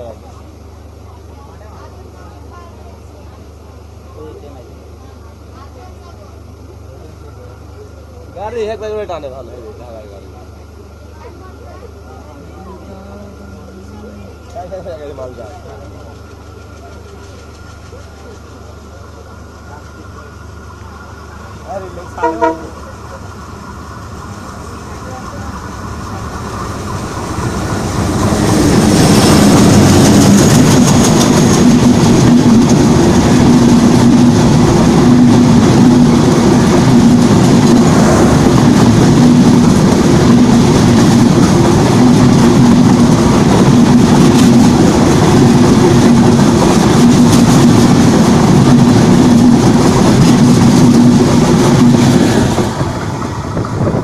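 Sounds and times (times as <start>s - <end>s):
train carriages rumbling on rails: 10.5s - 54.0s.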